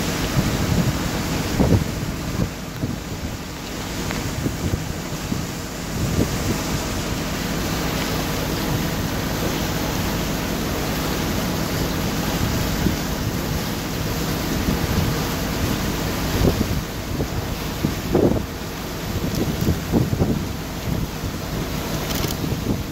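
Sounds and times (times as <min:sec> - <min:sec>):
motor boat engine humming: 0:00.0 - 0:22.9
water rushing: 0:00.0 - 0:22.9
wind buffeting microphone: 0:00.0 - 0:22.9.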